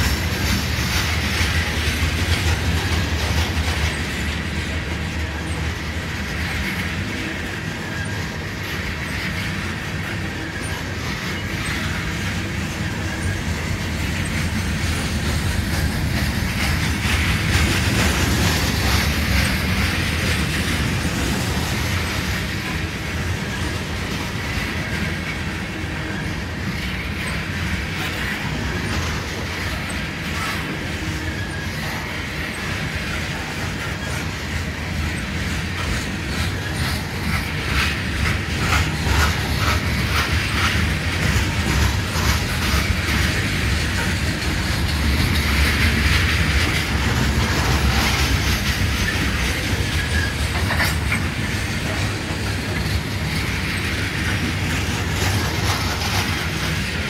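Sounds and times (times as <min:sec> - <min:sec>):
freight train rumbling past: 0:00.0 - 0:57.0
wheels clattering over rail joints: 0:00.0 - 0:57.0
high wheel squeal: 0:06.7 - 0:53.2.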